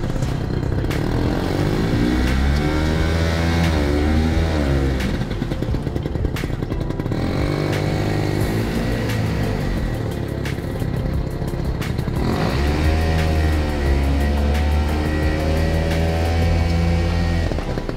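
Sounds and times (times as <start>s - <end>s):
vehicle engine revving: 0.0s - 17.9s.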